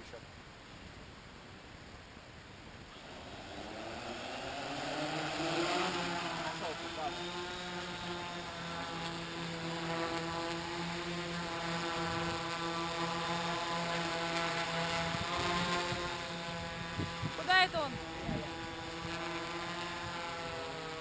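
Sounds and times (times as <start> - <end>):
drone propellers humming: 1.8 - 21.0.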